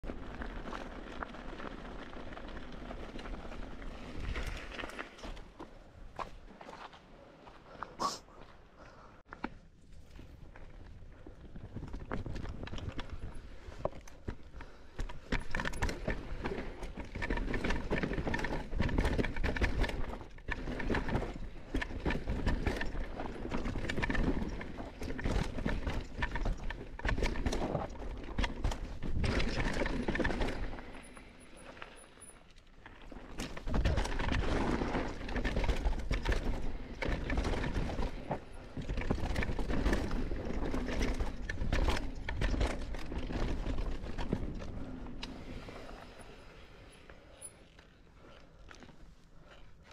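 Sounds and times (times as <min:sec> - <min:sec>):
bike rattling over bumps: 0:00.0 - 0:05.8, 0:10.0 - 0:47.6
bike tyres rolling over dirt: 0:00.0 - 0:07.6, 0:09.4 - 0:49.9.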